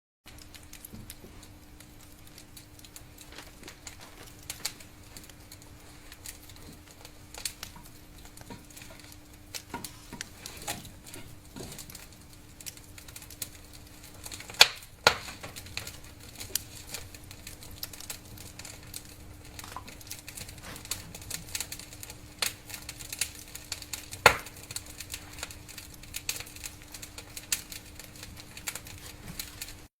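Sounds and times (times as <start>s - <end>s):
fire crackling and popping: 0.3s - 29.9s.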